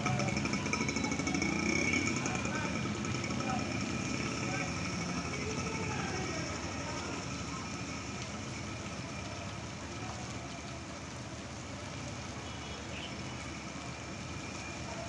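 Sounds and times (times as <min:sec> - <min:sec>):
floodwater running: 0:00.0 - 0:15.0
heavy rain falling: 0:00.0 - 0:15.0.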